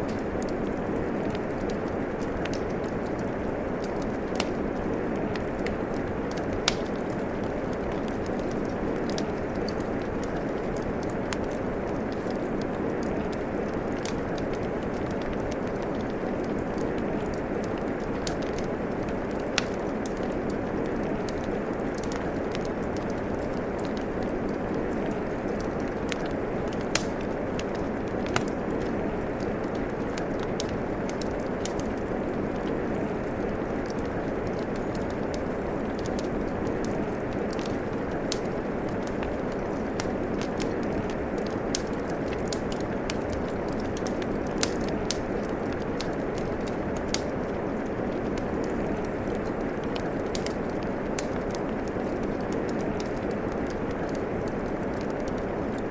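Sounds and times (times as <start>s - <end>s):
steady rain falling: 0.0s - 55.9s
wood fire crackling and popping: 0.0s - 55.9s.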